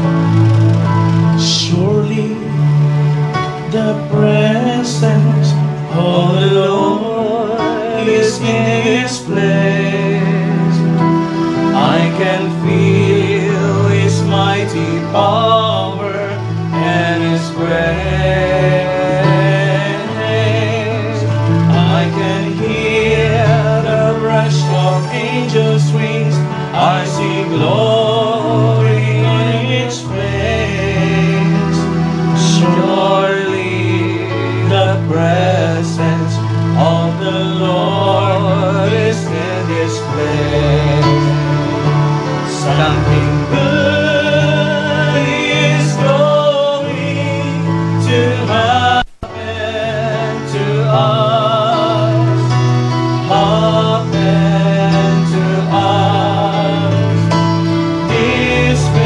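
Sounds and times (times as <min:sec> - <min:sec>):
slow gospel music: 0:00.0 - 0:59.0.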